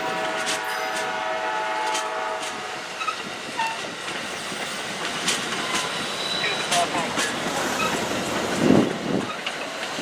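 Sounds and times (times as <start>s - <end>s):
wheels clicking over rail joints: 0.1s - 1.1s, 1.8s - 10.0s.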